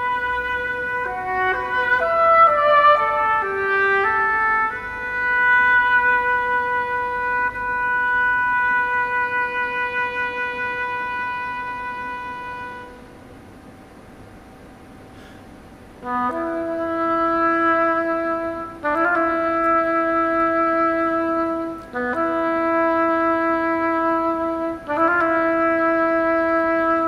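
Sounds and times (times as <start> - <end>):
flute and oboe chamber music: 0.0 - 13.2, 16.0 - 27.0.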